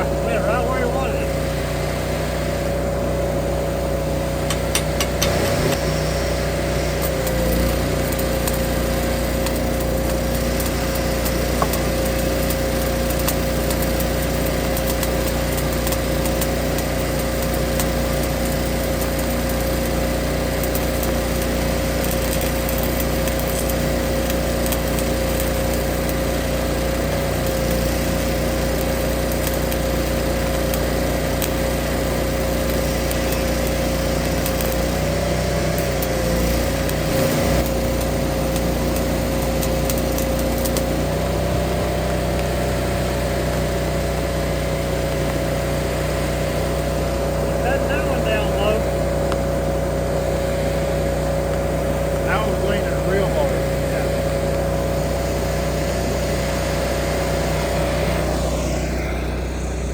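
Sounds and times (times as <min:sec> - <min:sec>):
engine running with high whine: 0:00.0 - 0:59.9.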